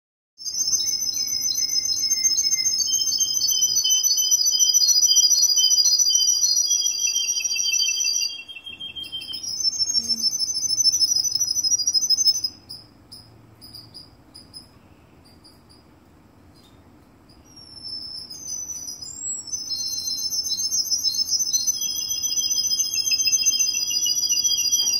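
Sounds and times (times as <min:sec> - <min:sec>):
canary singing trills: 0:00.4 - 0:16.7, 0:17.3 - 0:24.9.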